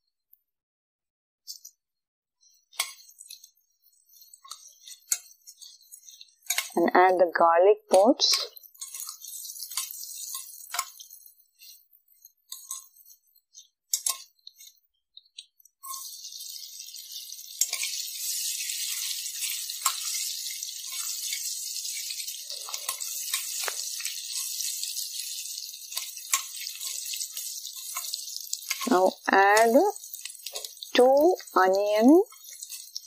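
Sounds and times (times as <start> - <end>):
garlic sizzling in oil: 2.4 - 7.3, 7.9 - 33.0
spatula tapping and scraping pan: 2.6 - 6.8, 8.3 - 28.9, 29.6 - 31.0, 32.3 - 33.0.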